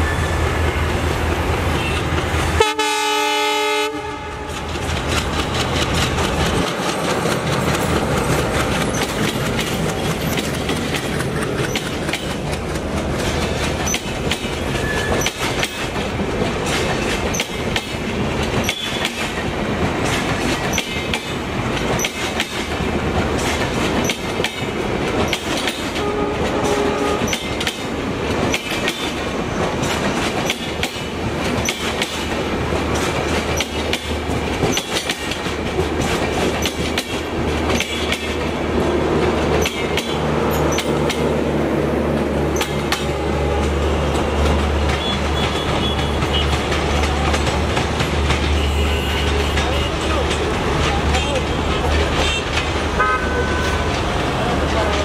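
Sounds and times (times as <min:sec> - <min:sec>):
train wheels clattering over rail joints: 0:04.4 - 0:53.0.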